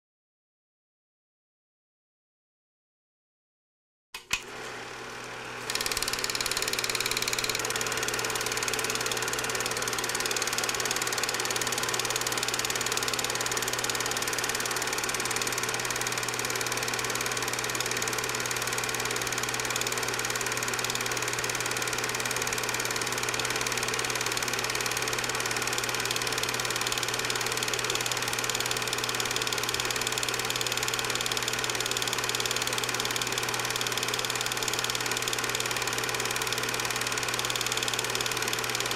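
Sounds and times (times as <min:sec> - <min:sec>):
movie projector whirring: 0:04.2 - 0:38.9.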